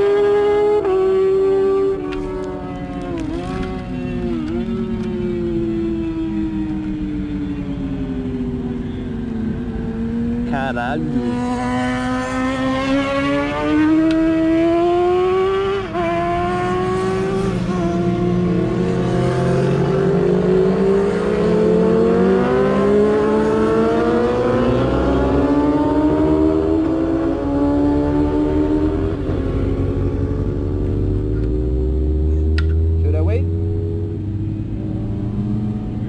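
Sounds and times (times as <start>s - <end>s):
motorcycle engine at full throttle: 0.0s - 36.0s.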